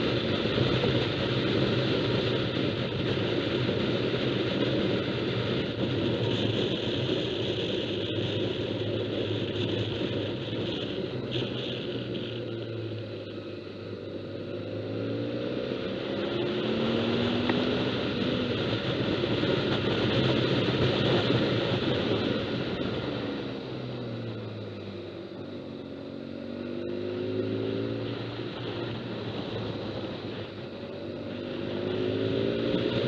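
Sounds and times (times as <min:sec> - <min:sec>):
motorcycle engine running: 0:00.0 - 0:33.0
wind: 0:00.0 - 0:33.0.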